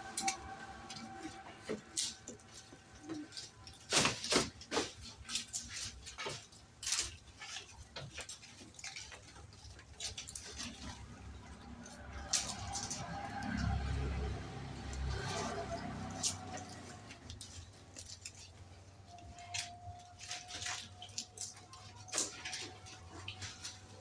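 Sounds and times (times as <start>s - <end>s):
goats clicking and rustling: 0.0s - 24.0s.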